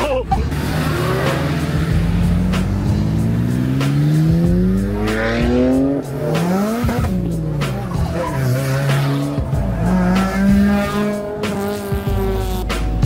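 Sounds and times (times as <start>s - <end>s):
car engine revving hard: 0.4s - 13.0s.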